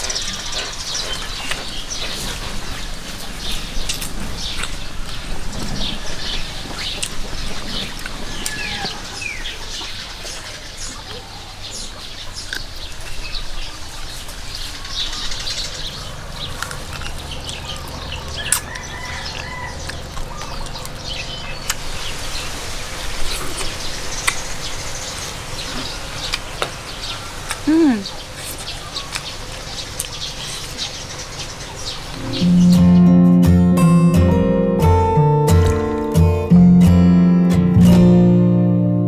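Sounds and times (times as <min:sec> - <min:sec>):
birds chirping: 0:00.0 - 0:37.4.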